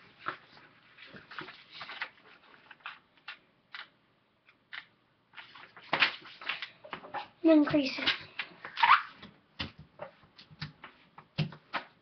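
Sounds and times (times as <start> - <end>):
paper folding and crinkling: 0.0 - 4.0, 4.7 - 12.0.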